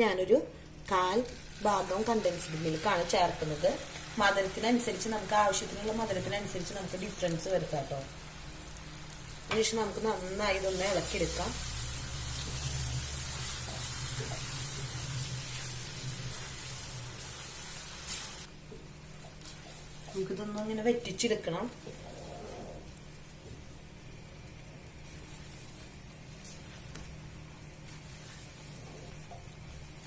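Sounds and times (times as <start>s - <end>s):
food sizzling in a pan: 0.6s - 30.0s.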